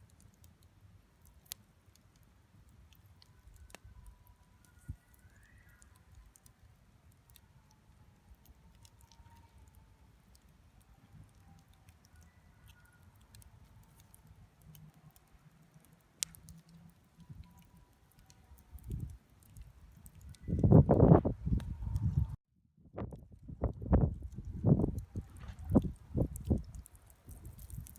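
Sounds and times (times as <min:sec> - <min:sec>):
campfire crackling: 0:00.0 - 0:22.1, 0:23.0 - 0:27.9.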